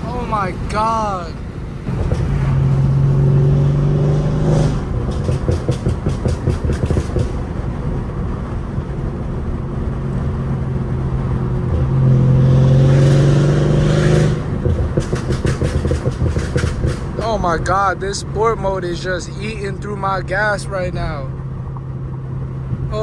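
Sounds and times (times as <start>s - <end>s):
car engine accelerating hard: 0.0s - 23.0s
exhaust crackles: 0.0s - 23.0s.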